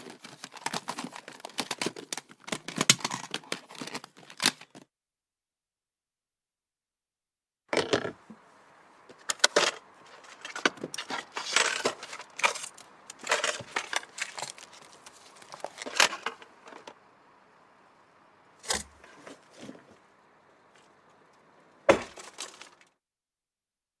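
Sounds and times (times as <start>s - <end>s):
small items clattering in a drawer: 0.0s - 4.8s, 7.7s - 22.9s.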